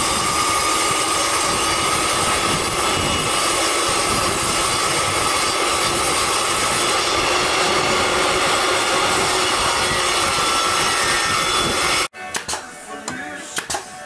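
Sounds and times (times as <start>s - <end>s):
table saw ripping wood: 0.0s - 12.1s.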